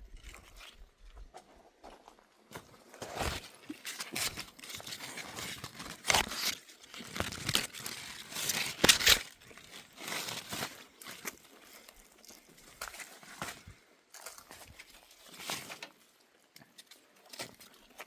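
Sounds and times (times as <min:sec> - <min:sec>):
leaves and branches rustling: 0:02.5 - 0:18.0.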